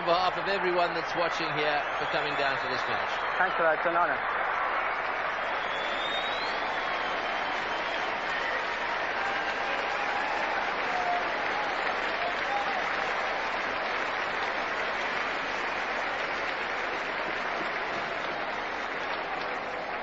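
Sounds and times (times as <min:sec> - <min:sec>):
crowd clapping: 0:00.0 - 0:20.0.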